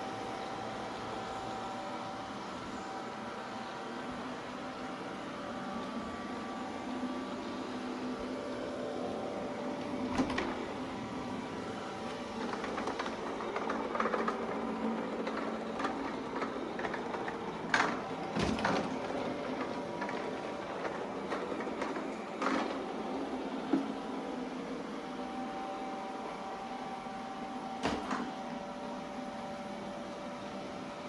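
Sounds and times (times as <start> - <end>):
robot vacuum whirring: 2.1 - 29.2.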